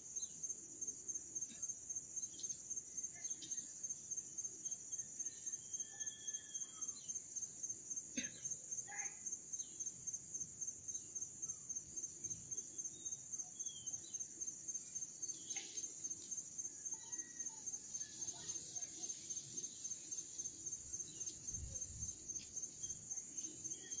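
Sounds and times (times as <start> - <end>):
high-pitched insect chirping: 0.0 - 24.0.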